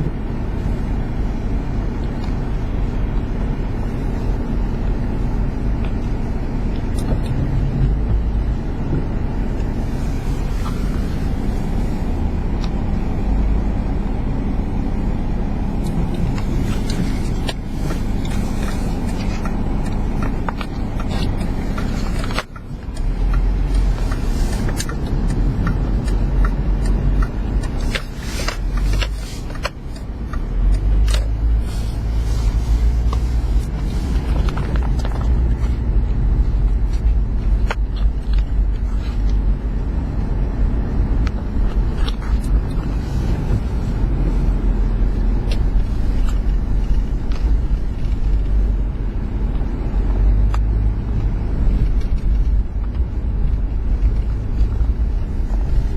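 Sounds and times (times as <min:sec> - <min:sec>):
vehicle engine low rumble: 0:00.0 - 0:55.9.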